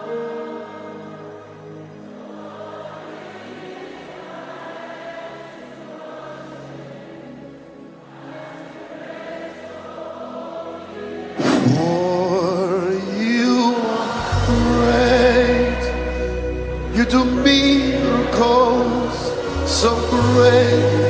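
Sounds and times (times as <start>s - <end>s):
congregation singing quietly: 0.0s - 21.0s
lead vocals singing: 0.0s - 21.0s
soft worship music chords: 0.0s - 21.0s.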